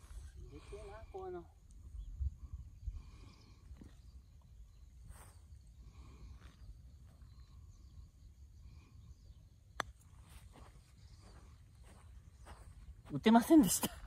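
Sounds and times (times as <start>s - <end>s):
faint chirping: 0.0s - 13.7s.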